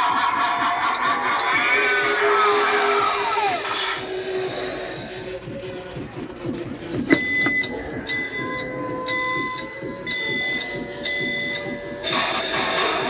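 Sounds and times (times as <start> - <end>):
electronic alarm beeping: 0.0 - 5.4, 7.1 - 13.0.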